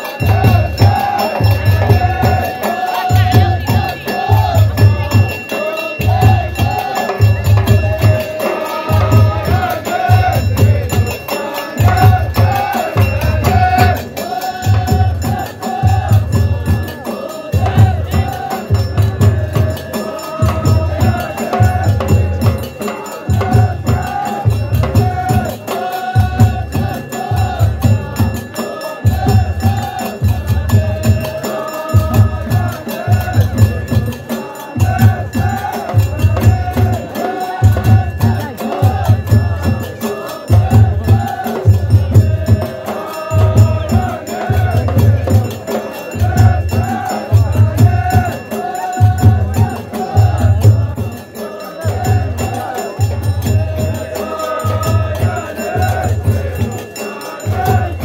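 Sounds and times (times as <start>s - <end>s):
group of voices chanting: 0.0s - 58.0s
deep frame drum beats: 0.2s - 34.2s, 34.8s - 51.3s.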